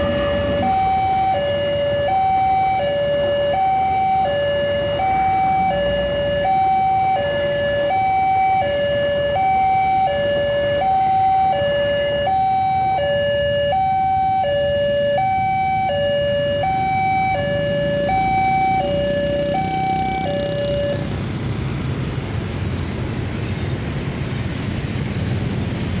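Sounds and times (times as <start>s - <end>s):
level-crossing warning alarm: 0.0s - 21.1s
motorcycle and car engines: 0.0s - 26.0s.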